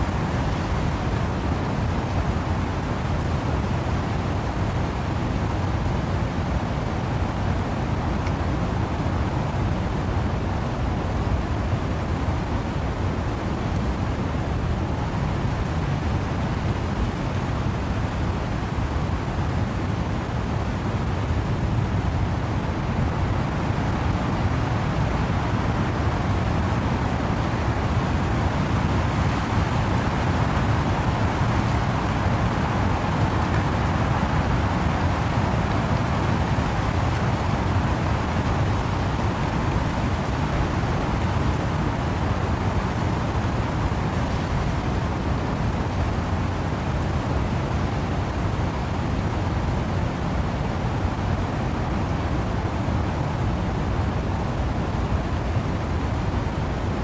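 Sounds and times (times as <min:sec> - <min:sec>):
wind and rain in trees: 0:00.0 - 0:57.0.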